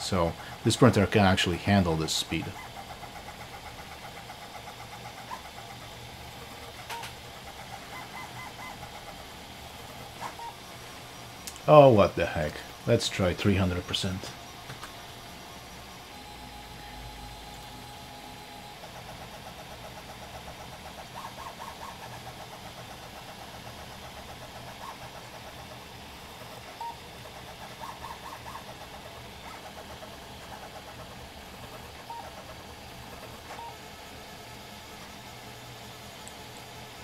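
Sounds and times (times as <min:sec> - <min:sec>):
stepper motors whining chirps: 0:00.0 - 0:36.9
steady low hum: 0:00.0 - 0:37.0.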